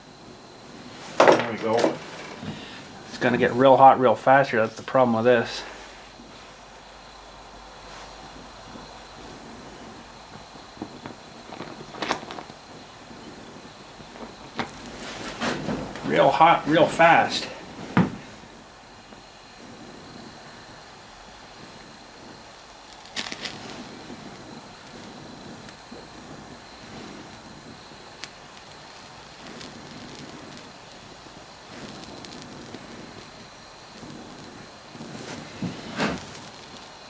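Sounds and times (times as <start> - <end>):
torch flame hissing: 0.0 - 37.0.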